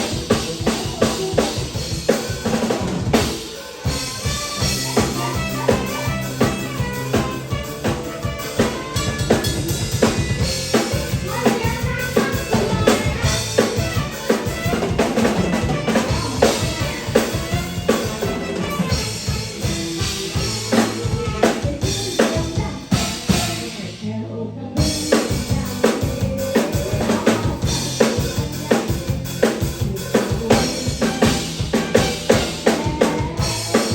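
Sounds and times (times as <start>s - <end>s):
drum kit played busily: 0.0s - 24.1s, 24.8s - 33.9s
live band music: 0.0s - 24.2s, 24.8s - 33.9s
steady bass line: 0.0s - 33.9s.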